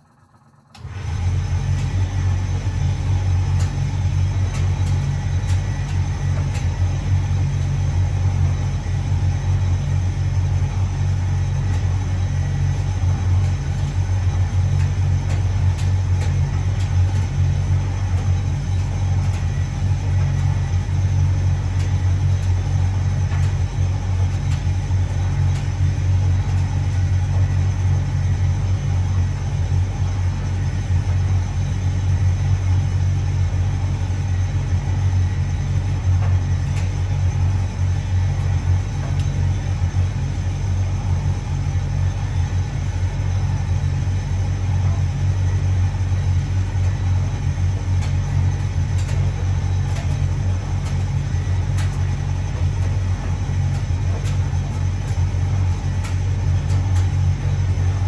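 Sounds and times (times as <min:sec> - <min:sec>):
tumble dryer rumbling: 0:00.0 - 0:58.0.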